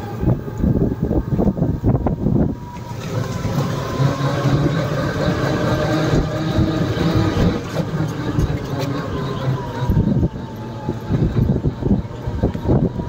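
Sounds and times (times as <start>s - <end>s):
small vehicle engine humming: 0.0s - 13.0s.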